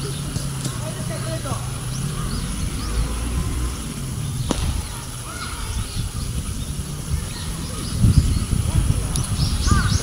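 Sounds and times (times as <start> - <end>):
low uneven rumble: 0.0 - 10.0.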